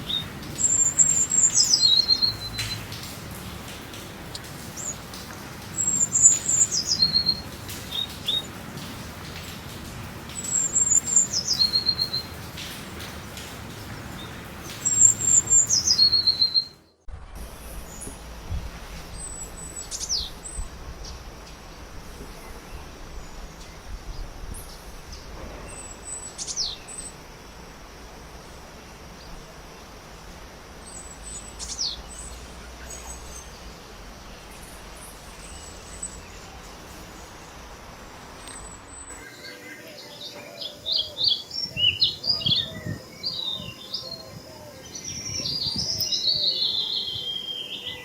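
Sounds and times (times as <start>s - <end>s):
outdoor background: 0.0s - 48.0s.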